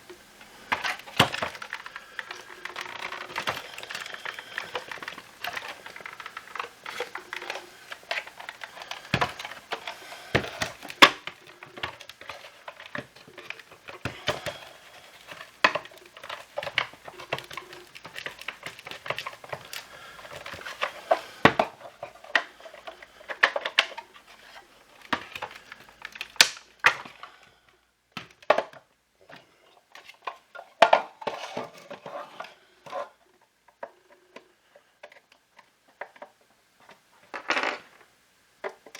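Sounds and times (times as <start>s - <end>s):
plastic parts clicking and knocking: 0.0s - 27.4s, 28.1s - 38.9s.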